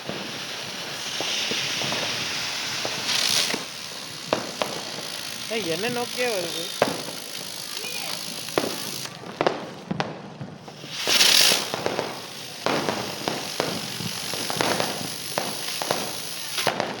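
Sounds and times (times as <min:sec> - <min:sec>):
firecracker hissing burst: 0:00.0 - 0:17.0
firecrackers popping and banging: 0:00.0 - 0:17.0.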